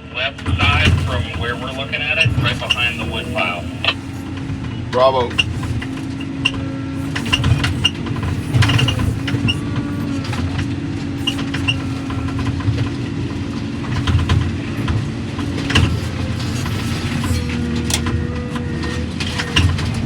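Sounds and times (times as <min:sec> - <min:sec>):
diesel heavy equipment running: 0:00.0 - 0:20.0
metal clanks and rattles: 0:00.4 - 0:20.0.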